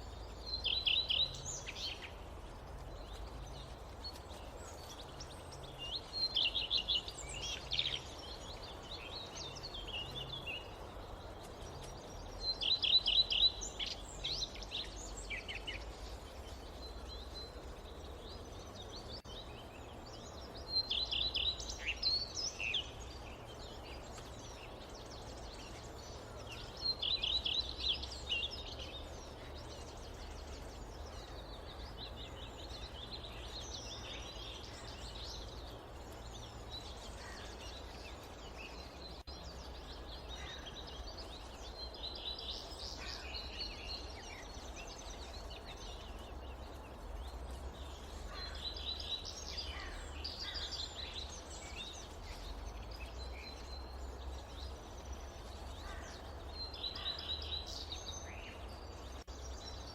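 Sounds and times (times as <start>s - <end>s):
background hiss: 0.0s - 59.9s
soft bird chirps: 0.0s - 59.9s
songbird singing: 0.0s - 59.9s.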